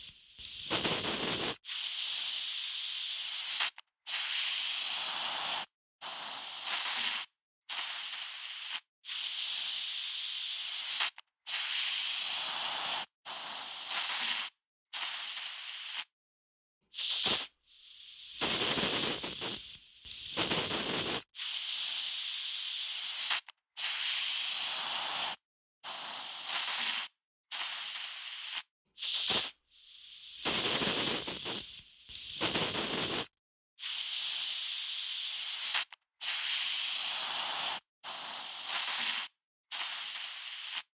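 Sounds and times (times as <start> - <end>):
aerosol spray can hissing: 0.0 - 16.1, 16.9 - 40.9.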